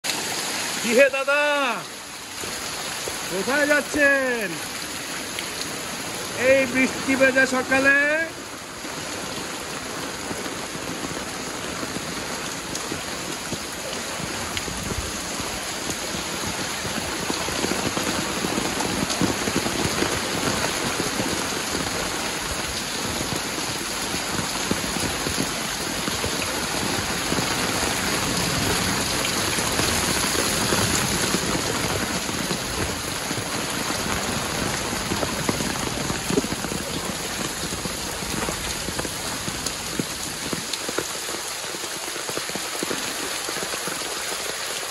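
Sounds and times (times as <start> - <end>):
heavy rain on water and concrete: 0.0 - 44.9.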